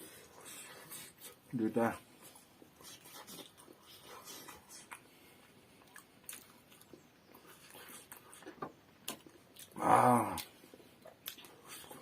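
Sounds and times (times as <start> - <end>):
person chewing: 2.2 - 12.0.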